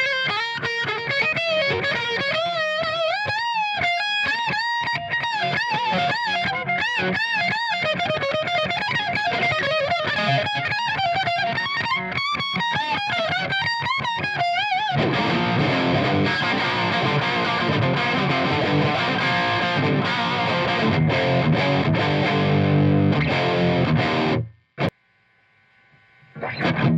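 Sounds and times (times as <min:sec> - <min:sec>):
overdriven guitar chord riffing: 0:00.0 - 0:24.9, 0:26.4 - 0:26.9
electric guitar lead lines: 0:00.0 - 0:25.0, 0:25.7 - 0:26.9.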